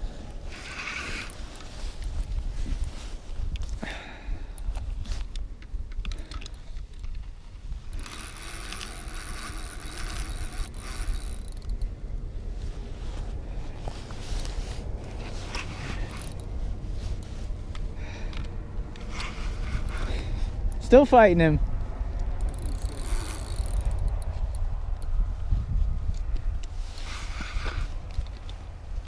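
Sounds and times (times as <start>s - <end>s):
handling noise scraping: 0.0s - 3.8s, 6.7s - 21.5s, 22.4s - 25.6s, 26.6s - 29.0s
steady low rumble: 0.0s - 29.0s.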